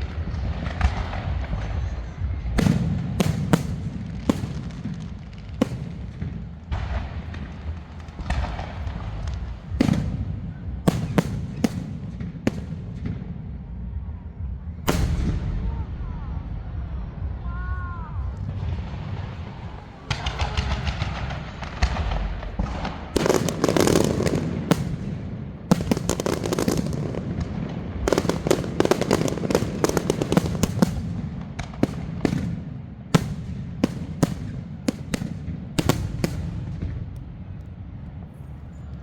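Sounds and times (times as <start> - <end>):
low rumble: 0.0 - 33.1
fireworks bangs and crackles: 0.0 - 39.0.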